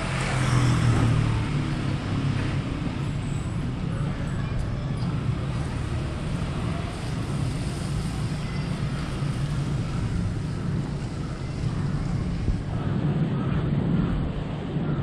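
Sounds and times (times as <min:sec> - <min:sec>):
low rumble of city ambience: 0:00.0 - 0:15.0.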